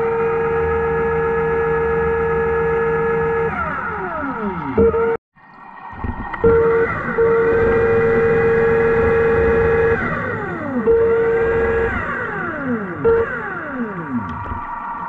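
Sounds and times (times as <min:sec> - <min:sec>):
steady hum: 0:00.0 - 0:15.0
underwater scooter motor whining: 0:00.0 - 0:15.0.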